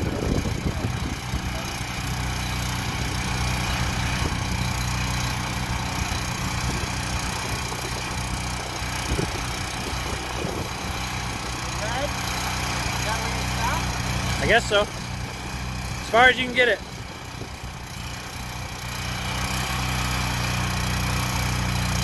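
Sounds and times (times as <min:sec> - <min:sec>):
small gasoline engine running: 0:00.0 - 0:22.0.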